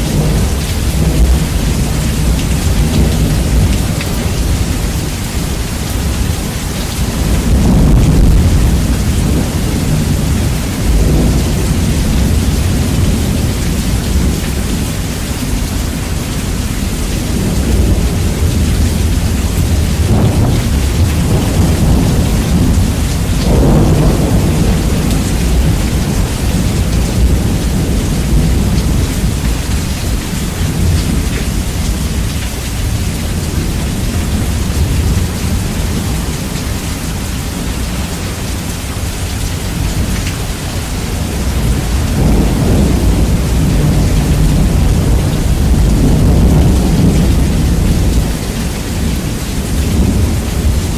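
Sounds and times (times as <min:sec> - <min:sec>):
heavy rain: 0:00.0 - 0:50.9
rolling thunder: 0:00.0 - 0:50.9.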